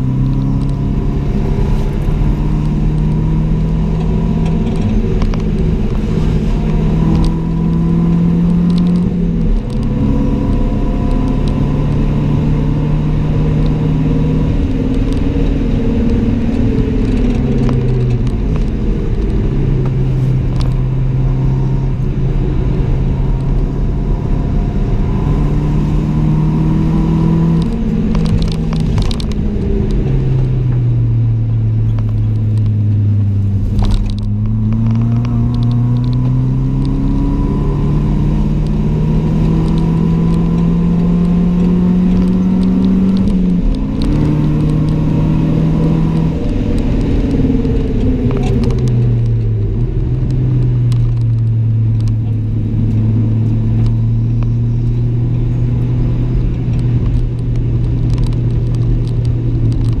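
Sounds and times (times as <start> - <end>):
car engine from inside cabin: 0.0 - 60.0.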